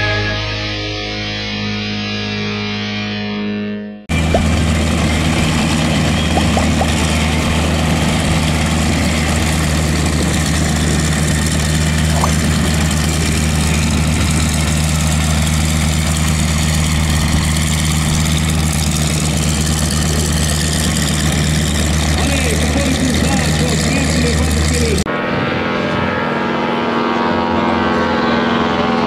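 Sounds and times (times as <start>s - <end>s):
radial engine running at low power: 4.1s - 29.0s.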